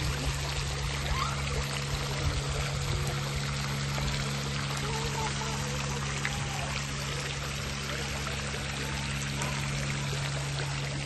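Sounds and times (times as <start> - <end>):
fountain water splashing into pond: 0.0 - 11.0
low hum: 0.0 - 11.0.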